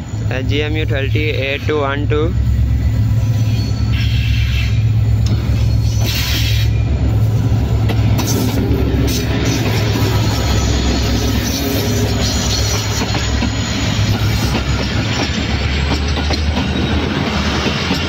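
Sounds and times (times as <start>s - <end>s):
diesel locomotive engine drone: 0.0s - 18.0s
train coaches rolling by: 0.0s - 18.0s.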